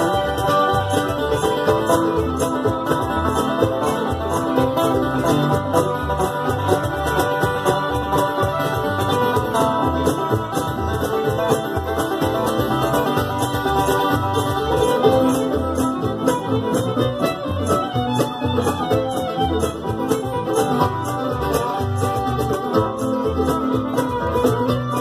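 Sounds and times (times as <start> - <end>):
banjo: 0.0 - 25.0
bluegrass band playing: 0.0 - 25.0.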